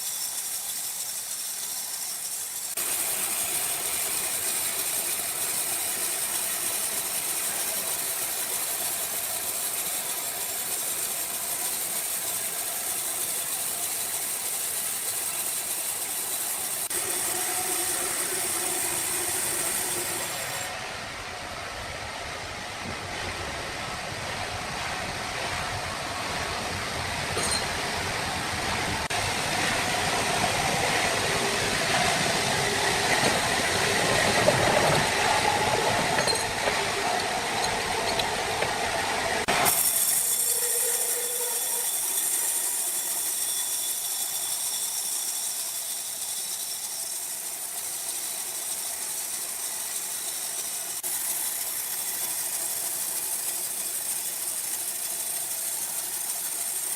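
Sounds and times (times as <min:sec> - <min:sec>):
high hiss: 0:00.0 - 0:56.9
sawmill machinery rumbling: 0:00.0 - 0:56.9.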